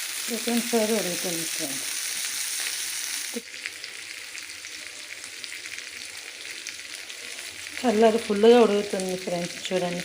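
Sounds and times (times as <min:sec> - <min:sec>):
fish sizzling in a pan: 0:00.0 - 0:10.0.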